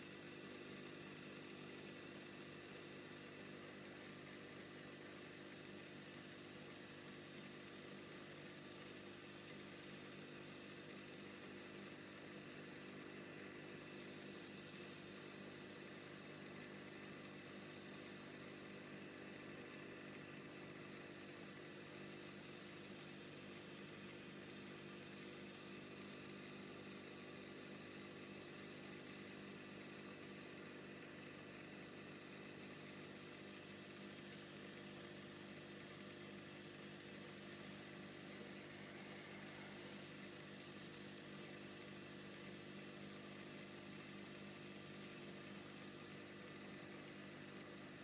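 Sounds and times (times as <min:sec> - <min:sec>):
aquarium equipment humming: 0:00.0 - 0:48.0.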